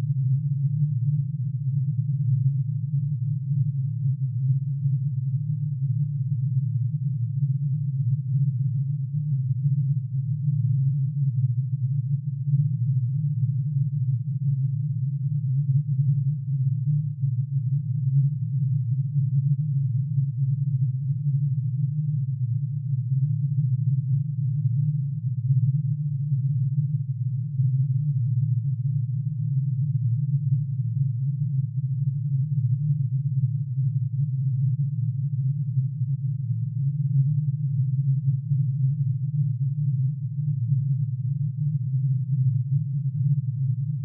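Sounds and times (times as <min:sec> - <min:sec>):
dense low synthesised drone: 0:00.0 - 0:44.0.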